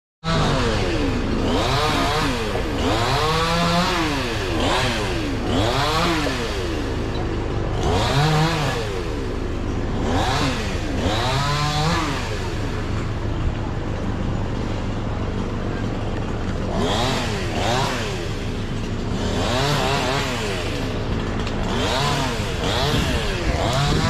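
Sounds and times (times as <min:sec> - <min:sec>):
chainsaw revving cutting wood: 0:00.2 - 0:24.0.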